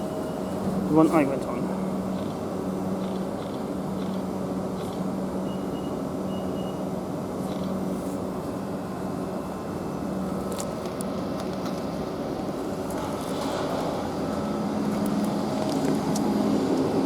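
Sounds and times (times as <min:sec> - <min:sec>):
train rolling noise: 0:00.0 - 0:05.4, 0:07.0 - 0:17.0
electric train hum: 0:00.0 - 0:17.0.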